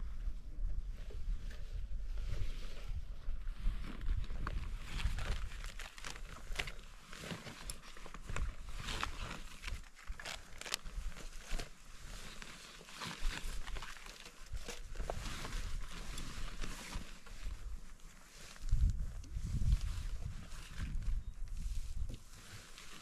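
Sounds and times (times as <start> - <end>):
rummaging through backpack: 3.8 - 23.0.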